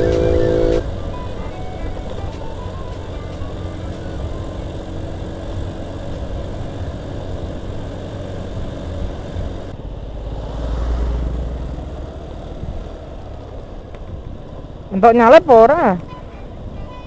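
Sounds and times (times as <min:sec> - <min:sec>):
low rumble: 0:00.0 - 0:16.8
scooter engine running: 0:00.0 - 0:17.0
wind and road noise: 0:00.0 - 0:17.0.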